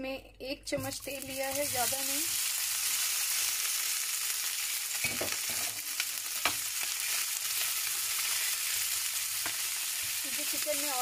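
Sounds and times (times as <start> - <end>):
chicken sizzling in a pan: 1.0 - 11.0.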